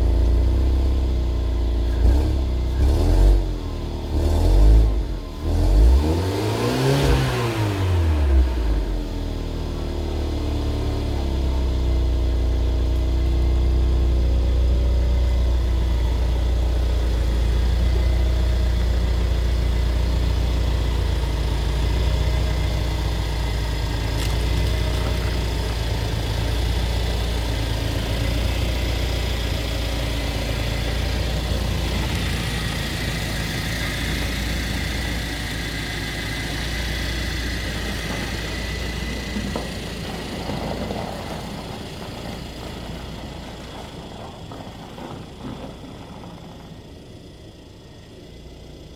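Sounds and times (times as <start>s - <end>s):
car engine revving and idling: 0.0s - 48.9s.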